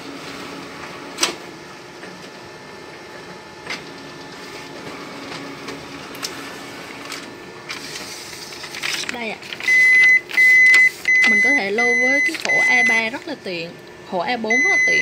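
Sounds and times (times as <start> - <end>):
copier mechanical hum: 0.0 - 15.0.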